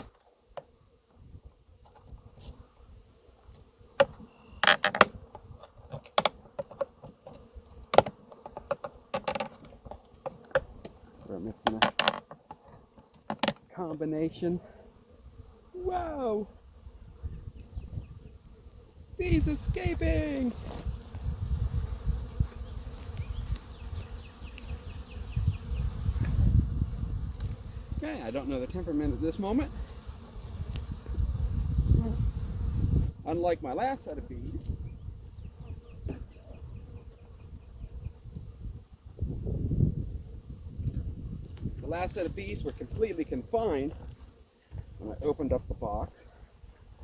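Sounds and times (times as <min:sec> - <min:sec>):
bees buzzing: 0:00.0 - 0:47.0.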